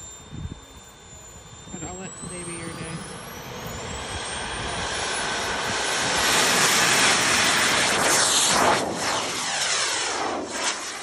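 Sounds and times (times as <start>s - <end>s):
jet roar: 0.0s - 11.0s
model jet turbine whine: 0.0s - 11.0s.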